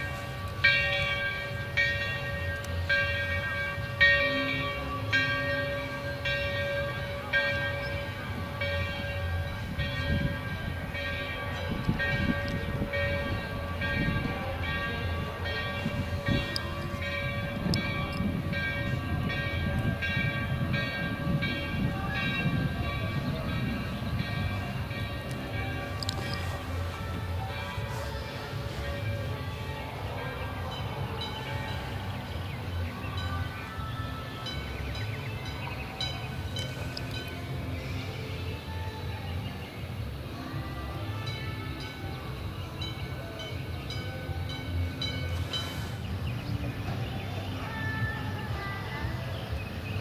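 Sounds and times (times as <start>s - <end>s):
trolley bell ringing: 0.0s - 50.0s
trolley rumbling on rails: 0.0s - 50.0s.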